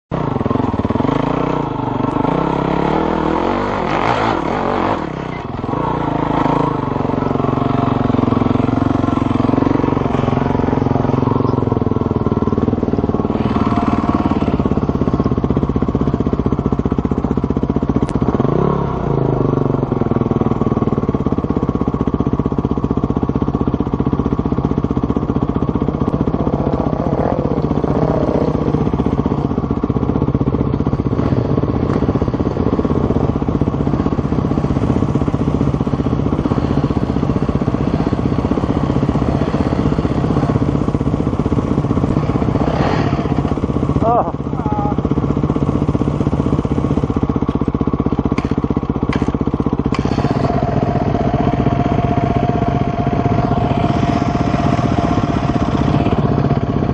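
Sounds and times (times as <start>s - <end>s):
dirt bike engine running: 0.1s - 56.9s.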